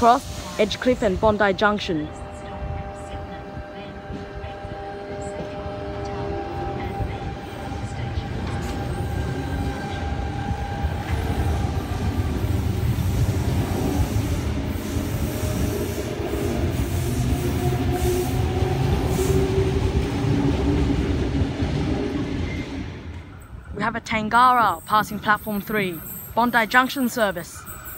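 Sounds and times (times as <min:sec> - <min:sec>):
electric train rumbling: 0:00.0 - 0:27.9.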